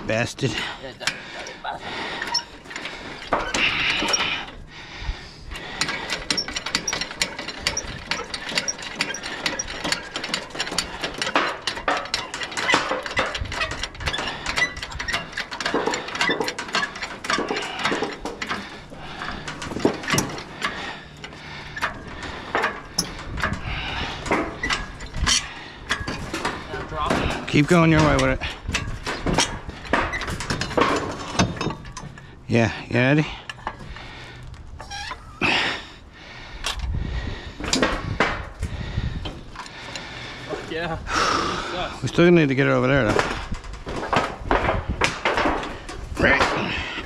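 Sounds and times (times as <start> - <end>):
engine hoist clicking and rattling: 0.0 - 47.0.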